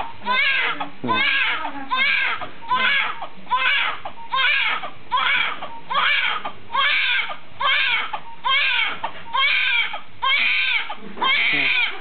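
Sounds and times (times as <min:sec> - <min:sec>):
newborn baby crying: 0:00.2 - 0:12.0.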